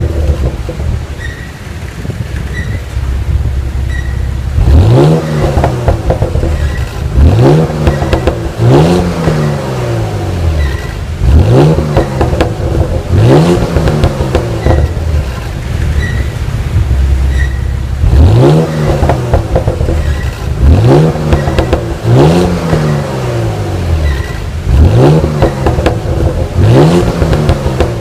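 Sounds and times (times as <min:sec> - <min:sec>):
car engine revving over idle: 0:00.0 - 0:01.2, 0:02.8 - 0:28.0.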